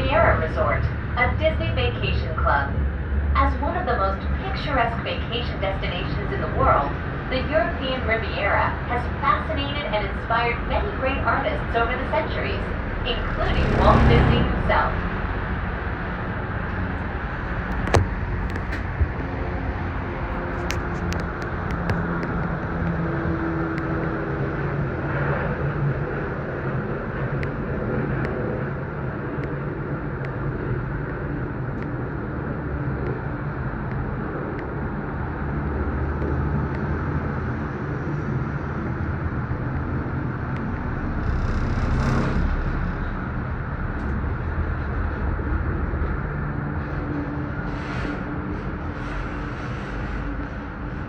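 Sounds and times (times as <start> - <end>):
gondola cabin rumble and hum: 0.0 - 51.0.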